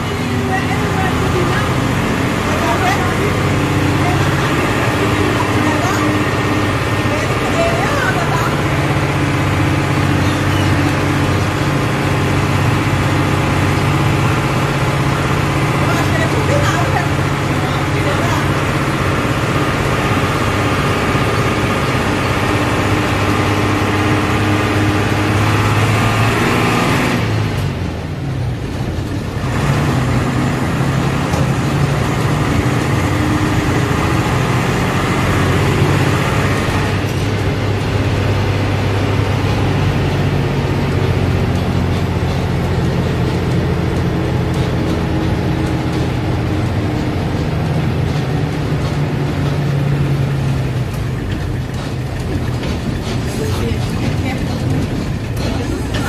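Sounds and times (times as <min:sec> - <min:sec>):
bus engine humming: 0:00.0 - 0:56.0
road noise: 0:00.0 - 0:56.0.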